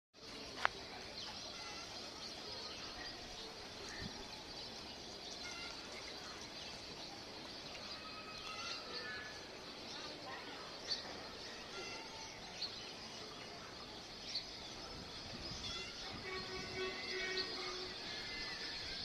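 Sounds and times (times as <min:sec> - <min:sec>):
outdoor background hiss: 0:00.2 - 0:19.0
small birds chirping: 0:00.2 - 0:19.0.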